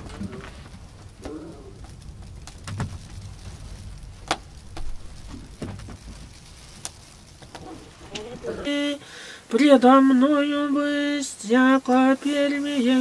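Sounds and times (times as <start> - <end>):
low steady rumble: 0.0 - 11.2.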